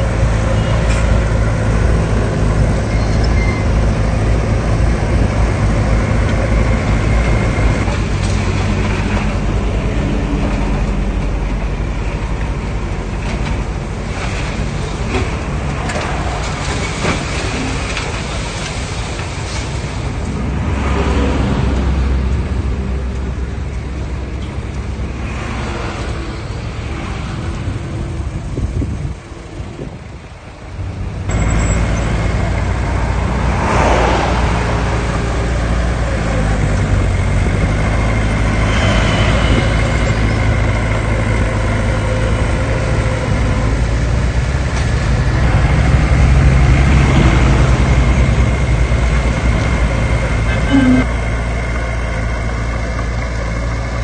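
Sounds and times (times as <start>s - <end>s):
heavy diesel machinery engine hum: 0.0s - 54.0s.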